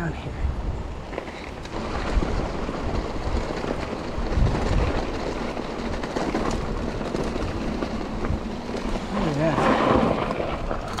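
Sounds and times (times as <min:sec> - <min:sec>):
bike tyres rumbling on dirt: 0:00.8 - 0:11.0
bike knocks and rattles: 0:01.1 - 0:11.0.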